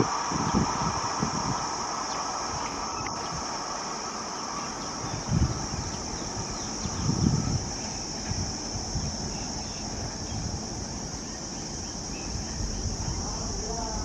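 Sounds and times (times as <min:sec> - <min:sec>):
insects chirring: 0:00.0 - 0:14.0
wind buffeting microphone: 0:00.0 - 0:14.0.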